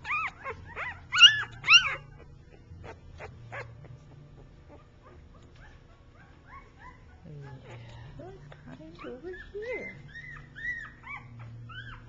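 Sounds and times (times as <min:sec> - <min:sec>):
puppy whimpering squeaks: 0:00.0 - 0:07.9, 0:08.7 - 0:12.0.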